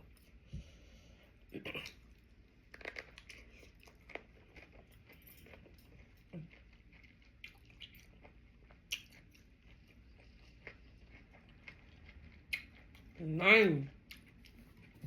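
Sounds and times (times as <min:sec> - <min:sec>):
person chewing: 0:01.7 - 0:13.2, 0:14.0 - 0:15.0.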